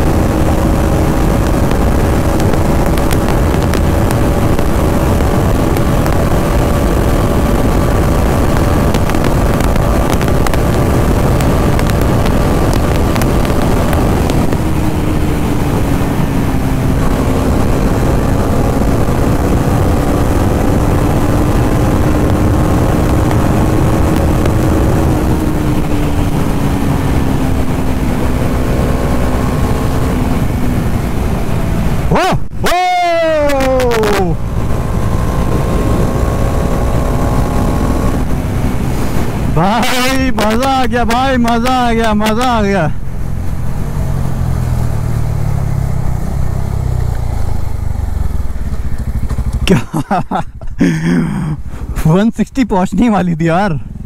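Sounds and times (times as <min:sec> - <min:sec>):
wind rush on microphone: 0:00.0 - 0:52.1
motorcycle engine pulling hard: 0:00.0 - 0:52.2.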